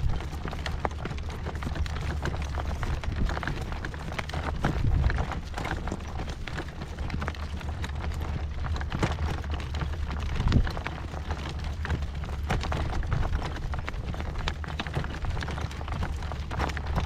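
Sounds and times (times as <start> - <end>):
horse hoofbeats: 0.0 - 17.0
wind buffeting microphone: 0.0 - 17.0.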